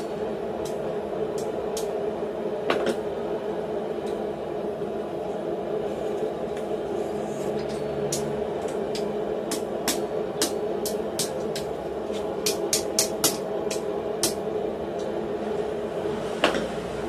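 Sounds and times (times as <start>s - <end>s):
steady shop drone: 0.0s - 17.0s.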